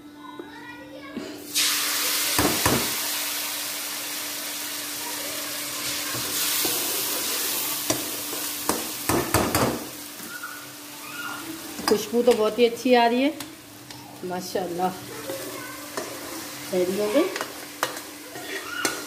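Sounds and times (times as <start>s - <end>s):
hot oil sizzling: 1.5s - 19.0s.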